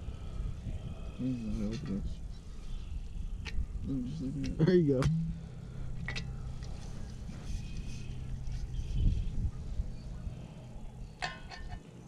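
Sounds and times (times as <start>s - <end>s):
low steady hum and rumble: 0.0s - 12.0s.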